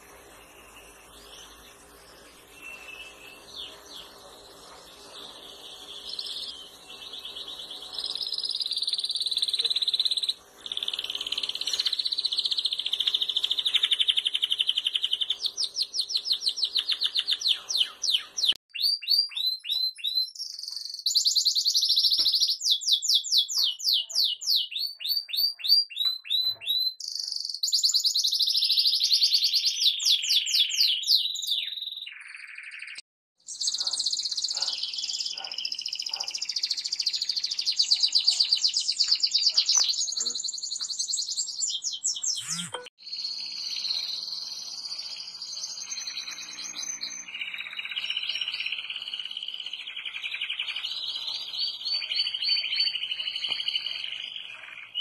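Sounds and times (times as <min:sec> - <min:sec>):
canaries singing trills: 0:00.0 - 0:55.0.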